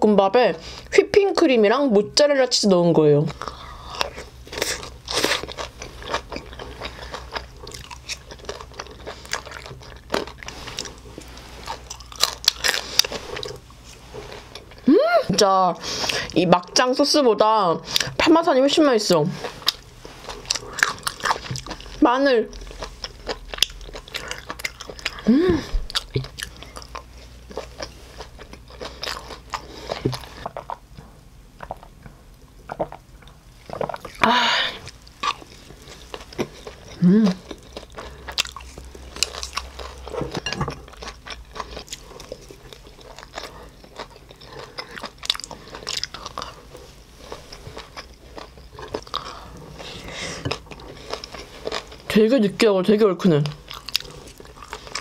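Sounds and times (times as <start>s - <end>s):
person chewing with mouth smacks: 3.3s - 14.9s, 19.4s - 34.2s, 34.8s - 52.1s, 53.6s - 55.0s.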